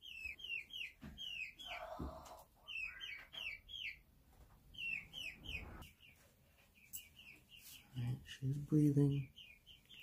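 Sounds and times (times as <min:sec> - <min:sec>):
baby chicks peeping: 0:00.0 - 0:10.0.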